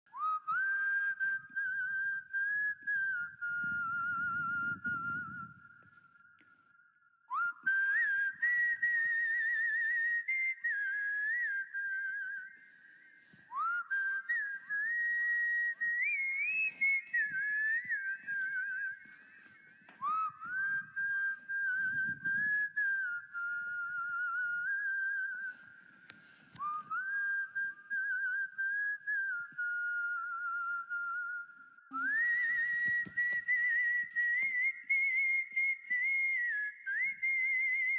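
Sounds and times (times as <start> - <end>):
person whistling a melody: 0.1 - 37.9.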